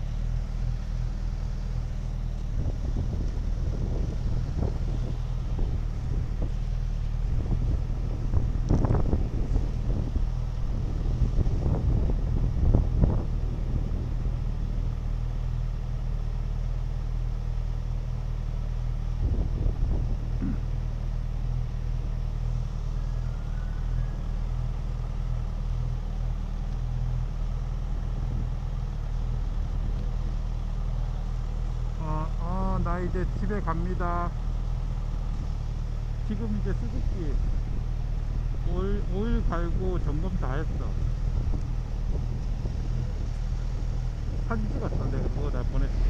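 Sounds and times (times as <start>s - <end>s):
car engine and road hum: 0.0s - 46.0s.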